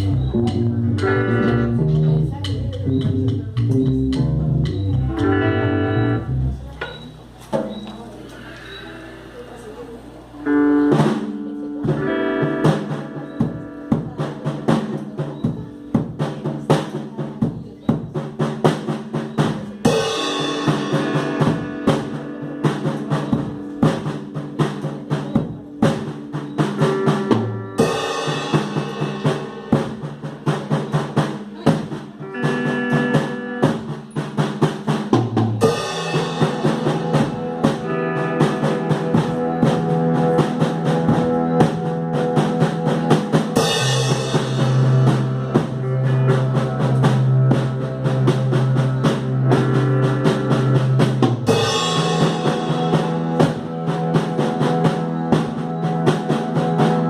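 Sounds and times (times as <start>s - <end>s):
drum kit beat: 0.0s - 57.0s.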